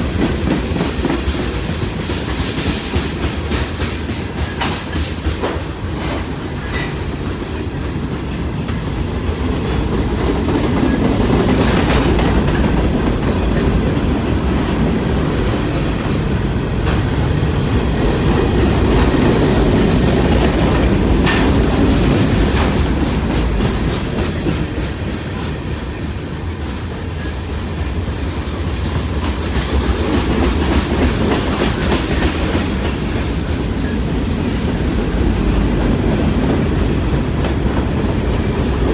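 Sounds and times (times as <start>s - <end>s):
freight train rumbling past: 0.0s - 38.9s
wheels clicking over rail joints: 0.0s - 38.9s.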